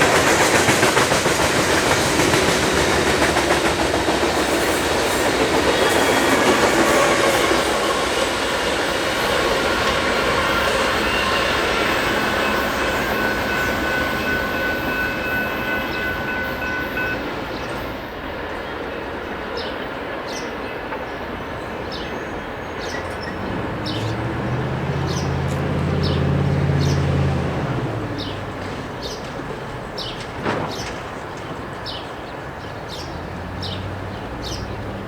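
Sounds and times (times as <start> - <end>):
diesel locomotive engine hum: 0.0 - 35.0
freight cars rumbling: 0.0 - 35.0
train wheels squealing: 0.0 - 35.0.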